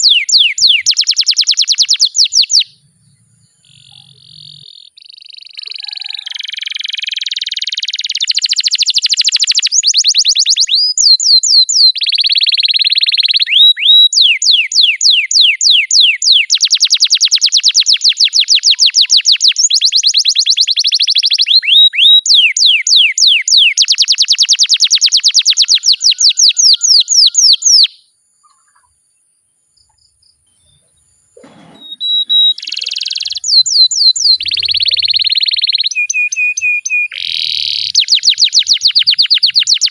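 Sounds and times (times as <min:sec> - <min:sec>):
canary singing trills: 0:00.0 - 0:29.2, 0:29.8 - 0:39.9.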